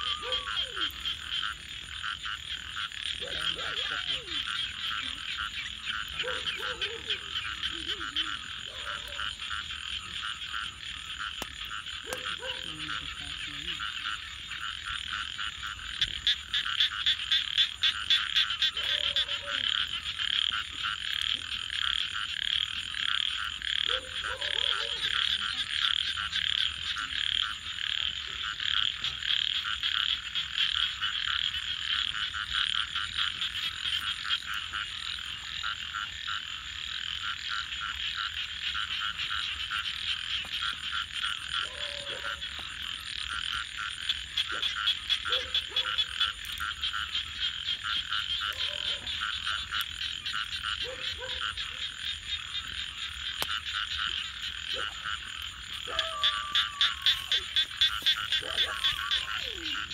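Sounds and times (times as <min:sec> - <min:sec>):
frogs trilling and croaking: 0:00.0 - 0:59.9
campfire crackling: 0:04.4 - 0:24.3, 0:25.0 - 0:36.0, 0:38.3 - 0:59.9.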